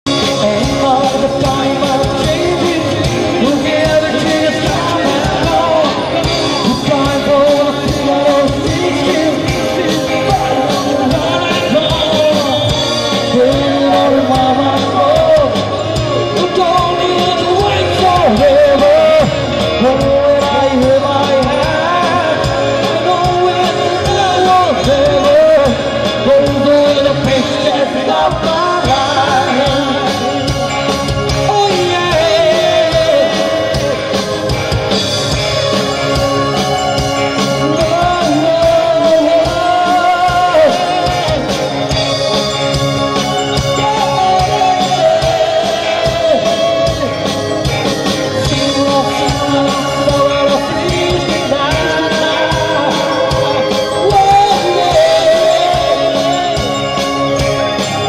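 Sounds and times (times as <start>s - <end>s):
rock band playing: 0.0s - 58.0s
man singing: 0.1s - 58.0s.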